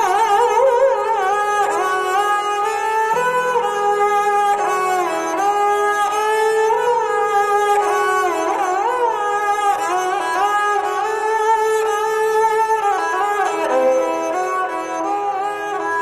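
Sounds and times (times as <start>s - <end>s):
stringed instrument slow melody: 0.0s - 16.0s.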